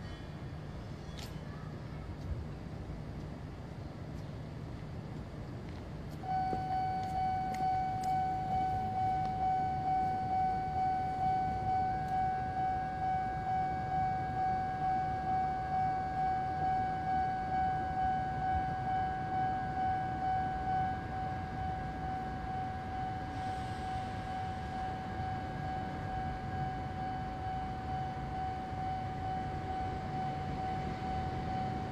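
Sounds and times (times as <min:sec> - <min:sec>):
level crossing warning bell: 0:06.2 - 0:31.9.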